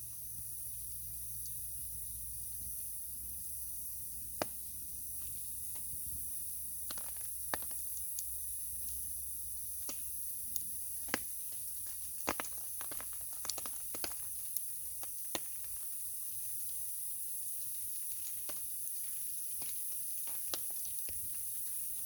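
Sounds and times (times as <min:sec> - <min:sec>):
wood fire crackling: 0:03.5 - 0:22.0.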